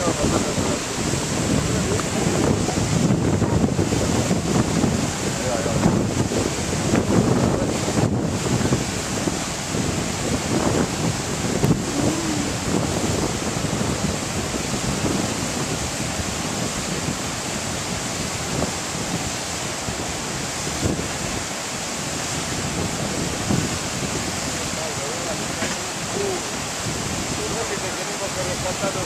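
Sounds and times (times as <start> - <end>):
water pouring over rocks: 0.0 - 29.0
wind buffeting microphone: 0.0 - 29.0.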